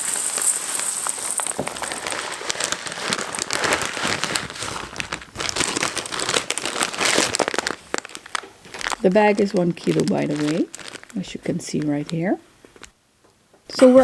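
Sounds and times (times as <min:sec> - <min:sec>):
birdseed pouring: 0:00.0 - 0:11.7
plastic bag crinkling: 0:00.0 - 0:13.0.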